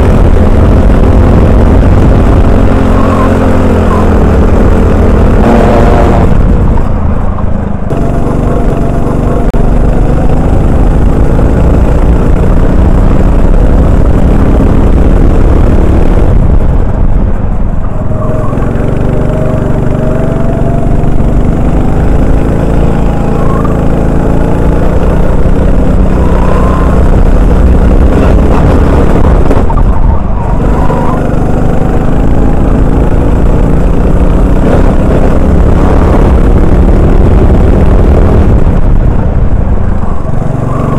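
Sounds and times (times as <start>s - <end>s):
kart engine revving: 0.0s - 40.9s.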